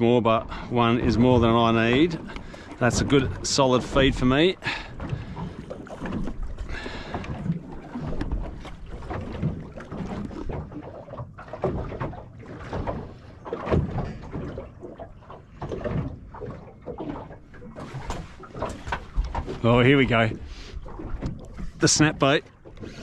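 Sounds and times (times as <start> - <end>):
water lapping against hull: 0.0 - 23.0.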